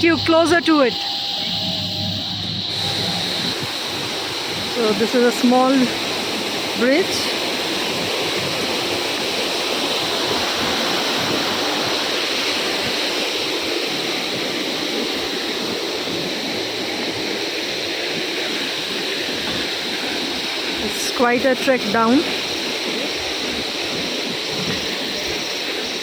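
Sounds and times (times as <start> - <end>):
waterfall crashing: 2.7 - 26.0.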